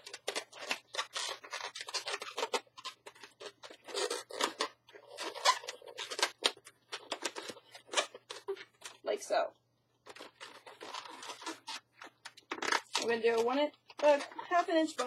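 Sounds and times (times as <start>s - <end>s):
balloons rubbing and squeaking: 0.0s - 9.2s, 10.0s - 15.0s.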